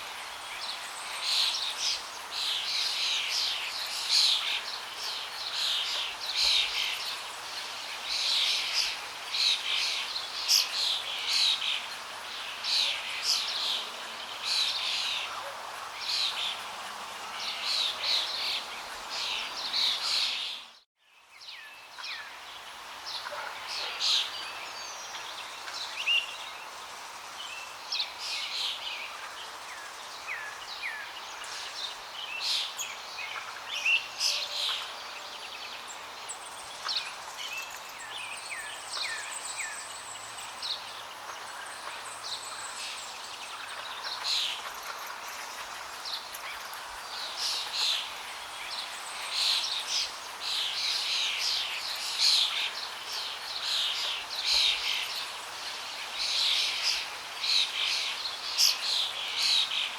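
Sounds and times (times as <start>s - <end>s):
flowing water hiss: 0.0s - 20.8s, 21.4s - 59.9s
small birds chirping: 0.0s - 59.9s.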